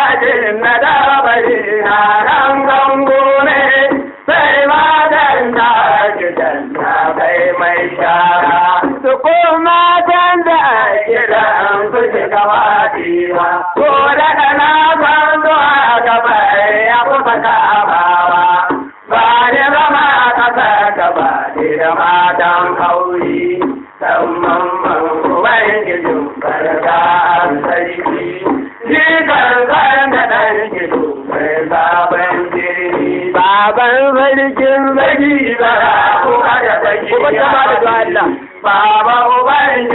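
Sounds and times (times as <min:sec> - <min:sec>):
man chanting a song: 0:00.0 - 0:39.9
man singing: 0:00.0 - 0:39.9.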